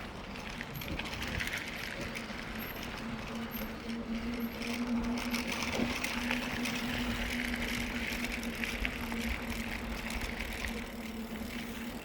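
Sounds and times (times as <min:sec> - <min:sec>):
bike rattles and clicks: 0:00.0 - 0:12.0
bike tyre hum: 0:00.0 - 0:12.0.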